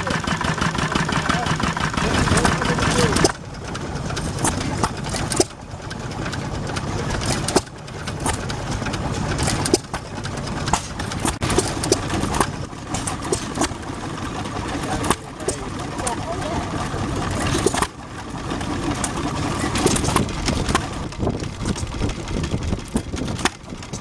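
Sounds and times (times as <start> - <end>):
sharp clicks and knocks: 0.0 - 24.0
stationary engine chugging: 0.0 - 24.0.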